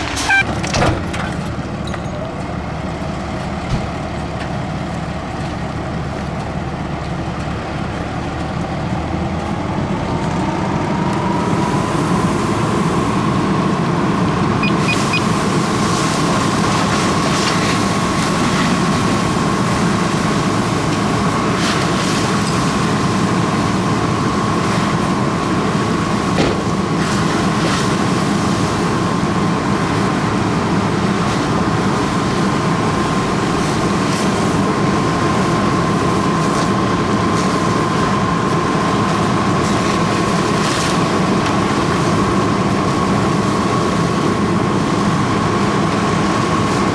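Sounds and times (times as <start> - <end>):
fire engine running: 0.0 - 46.9.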